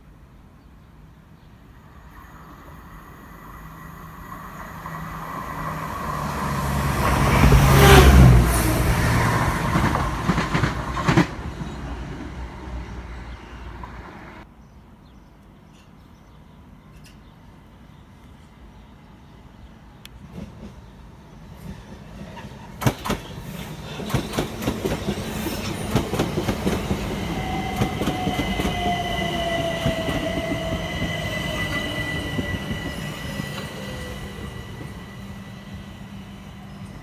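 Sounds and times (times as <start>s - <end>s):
diesel train passing: 0.2s - 14.5s, 18.4s - 37.0s.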